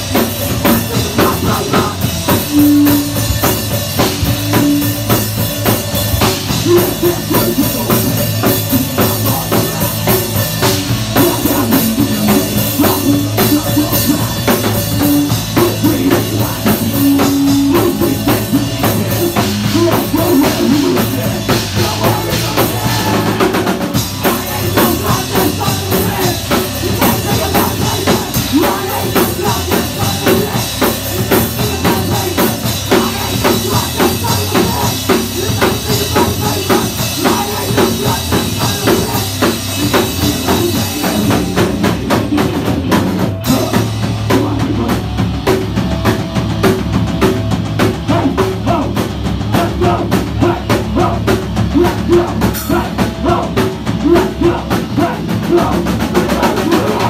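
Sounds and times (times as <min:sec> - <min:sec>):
drum kit pounding quick beat: 0:00.0 - 0:57.0
punk band playing loud and fast: 0:00.0 - 0:57.0.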